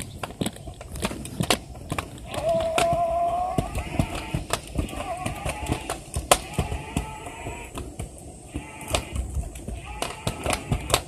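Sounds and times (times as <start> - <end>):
scooter wheels clacking on pavement: 0.0 - 11.0.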